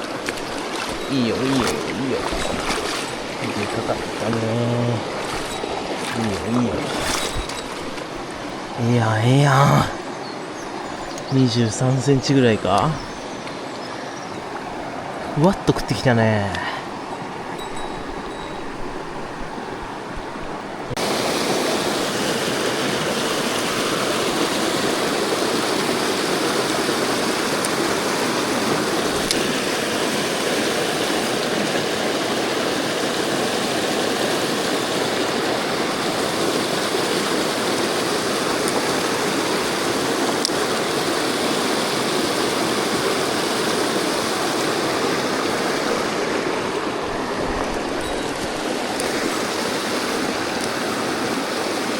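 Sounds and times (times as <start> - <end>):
stream water rushing: 0.0 - 51.9.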